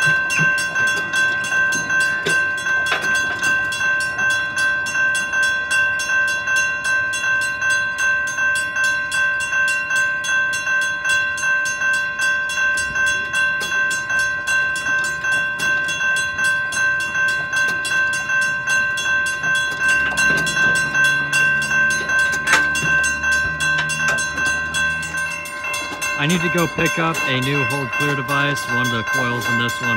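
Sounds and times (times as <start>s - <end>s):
railroad crossing bell ringing: 0.0s - 29.9s.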